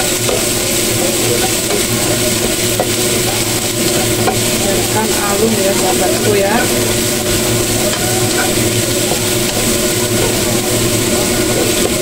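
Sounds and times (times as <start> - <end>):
spatula stirring in wok: 0.0 - 12.0
steady background hum: 0.0 - 12.0
vegetables sizzling in oil: 0.0 - 12.0.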